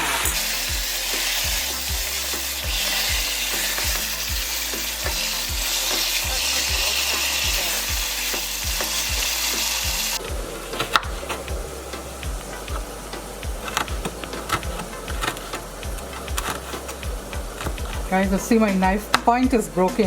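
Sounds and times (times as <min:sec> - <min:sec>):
chicken sizzling in hot oil: 0:00.0 - 0:19.2.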